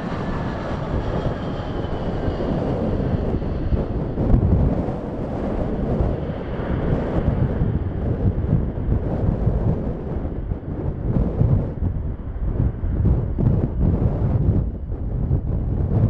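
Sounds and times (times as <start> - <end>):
jet aircraft noise: 0.0 - 16.0
wind buffeting microphone: 0.0 - 16.0.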